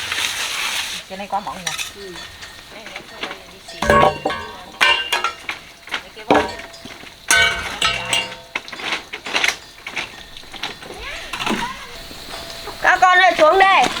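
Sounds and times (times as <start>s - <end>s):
metal objects clanking: 1.3s - 14.0s.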